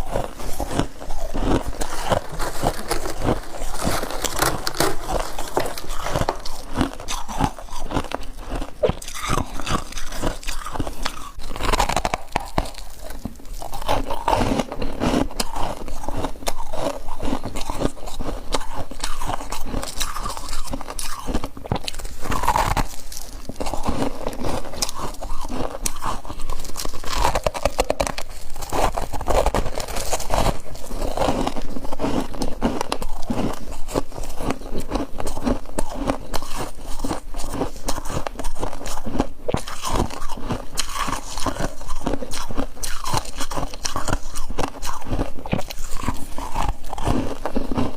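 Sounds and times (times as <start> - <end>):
frost being chewed: 0.0 - 47.9.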